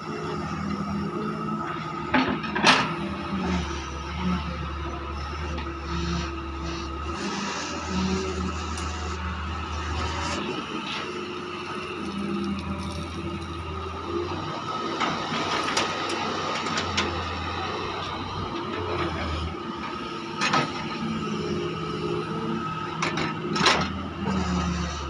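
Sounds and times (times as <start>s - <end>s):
engine whine: 0.0s - 25.0s
excavator diesel engine: 0.0s - 25.0s.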